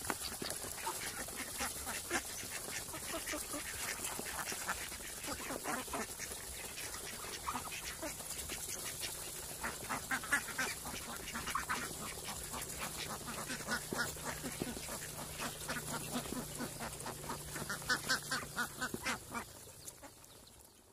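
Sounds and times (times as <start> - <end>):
ducks quacking: 0.0 - 20.4
duck bills clicking in feed: 0.0 - 20.9.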